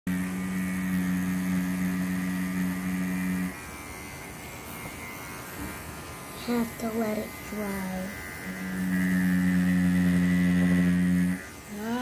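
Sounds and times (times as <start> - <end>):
tattoo machine humming: 0.1 - 12.0.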